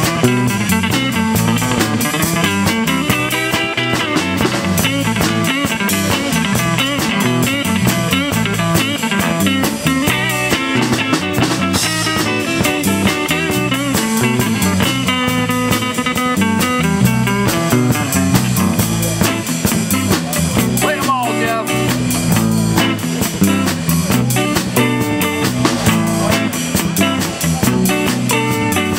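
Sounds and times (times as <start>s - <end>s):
bass guitar: 0.0s - 28.9s
drum kit: 0.0s - 28.9s
electric guitar bending lead lines: 0.0s - 28.9s.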